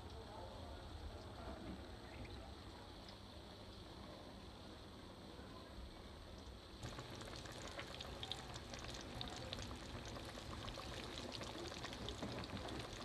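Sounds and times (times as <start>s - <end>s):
chicken deep-frying in hot oil: 0.1s - 13.0s.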